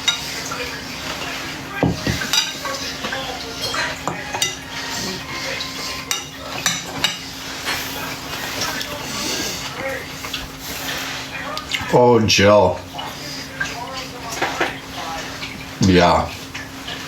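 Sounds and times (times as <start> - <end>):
cutlery and dishes clinking: 0.0 - 11.9, 13.0 - 17.0.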